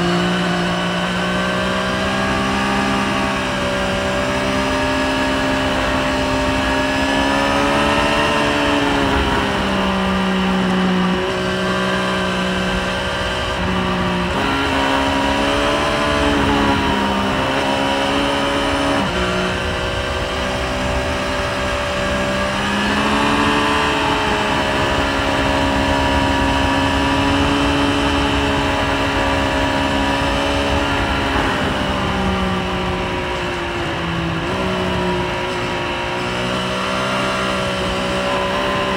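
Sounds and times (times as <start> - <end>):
motorcycle engine revving: 0.0 - 38.9
wind noise: 0.0 - 38.9.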